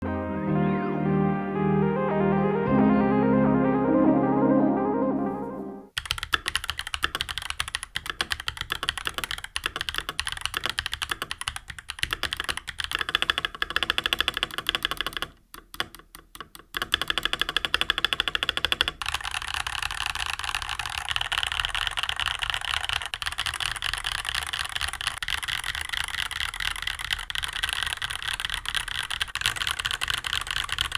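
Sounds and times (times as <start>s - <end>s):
mechanical keyboard typing: 6.0s - 30.9s.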